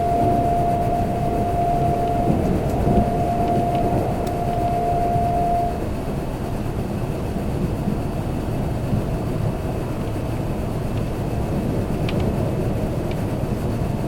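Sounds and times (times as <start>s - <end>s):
steady whine: 0.0s - 14.0s
train interior rumble: 0.0s - 14.0s.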